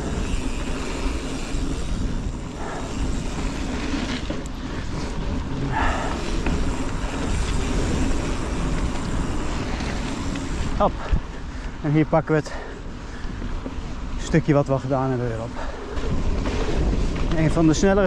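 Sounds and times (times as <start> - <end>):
bike rattling: 0.0 - 18.0
bike tyres rumbling on dirt trail: 0.0 - 18.0
wind buffeting microphone: 0.0 - 18.0.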